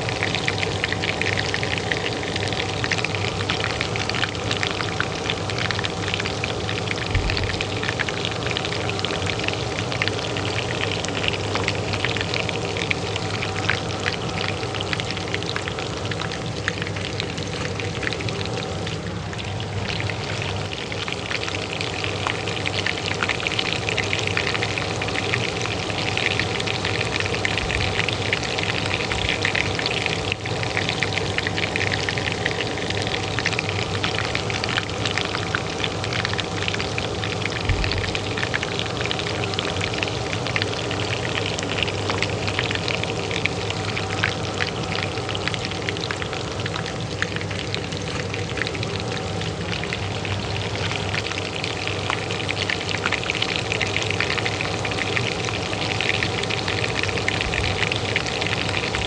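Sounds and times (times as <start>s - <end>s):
hot oil frying: 0.0s - 59.0s
range hood fan humming: 0.0s - 59.0s.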